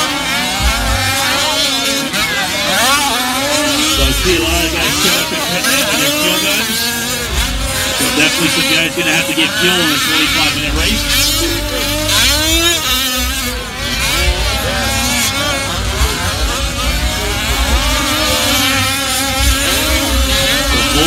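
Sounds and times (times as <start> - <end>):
rc truck two-stroke engines revving: 0.0 - 21.0.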